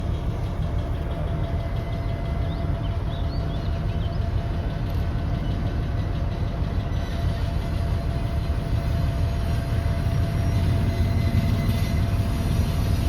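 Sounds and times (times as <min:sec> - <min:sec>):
diesel locomotive engine rumbling: 0:00.0 - 0:13.0
thin steady whine: 0:00.0 - 0:13.0.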